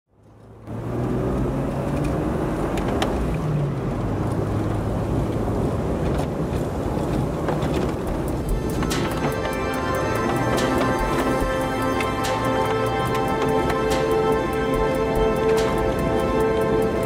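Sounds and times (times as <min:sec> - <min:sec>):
engine and road rumble: 0:00.1 - 0:17.0.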